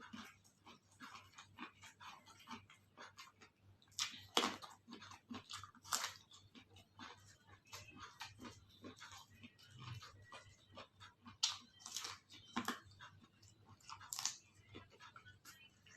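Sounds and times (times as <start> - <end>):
person chewing crisp food: 0.0 - 15.9.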